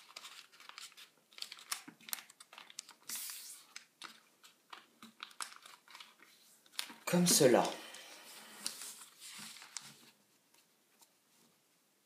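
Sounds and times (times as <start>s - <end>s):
paper crinkling and clicking: 0.0s - 7.8s, 8.6s - 11.1s
paper rustle: 0.0s - 11.6s.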